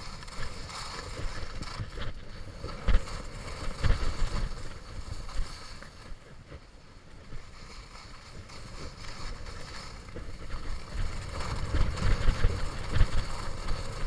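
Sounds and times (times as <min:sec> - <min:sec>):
skis hissing over snow: 0:00.0 - 0:14.0
wind on microphone: 0:00.0 - 0:14.0.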